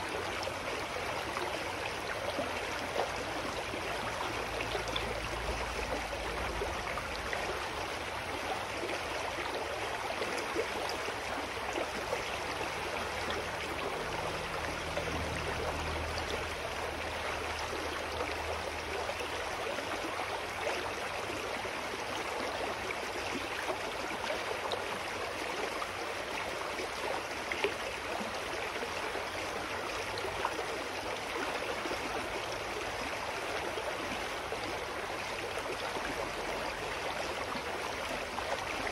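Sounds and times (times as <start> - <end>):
stream rushing and babbling: 0.0 - 38.9.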